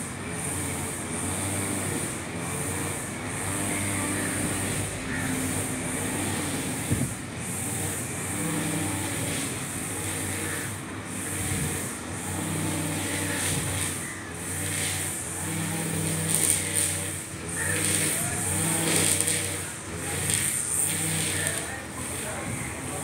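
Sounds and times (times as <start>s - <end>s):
brush cutter engine revving: 0.0s - 23.0s
nylon line cutting grass: 0.0s - 23.0s.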